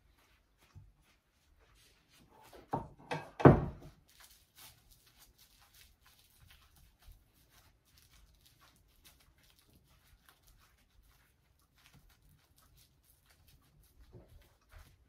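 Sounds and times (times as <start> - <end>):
soft patting and rustling: 0.0 - 15.0.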